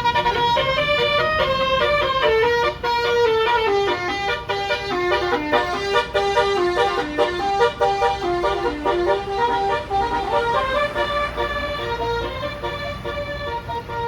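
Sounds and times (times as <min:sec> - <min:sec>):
musical air horn melody: 0:00.0 - 0:14.0.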